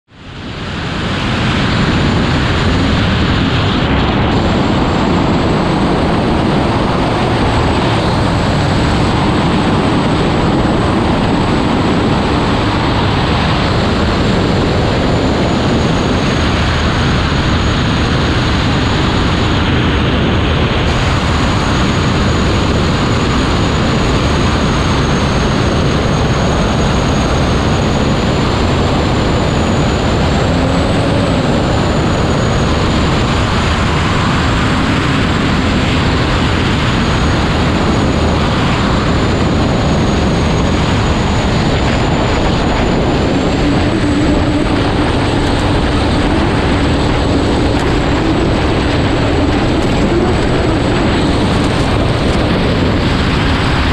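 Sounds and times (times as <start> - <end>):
turbine engine with high whine: 0.0 - 53.9
wind and water rushing over hull: 0.0 - 53.9.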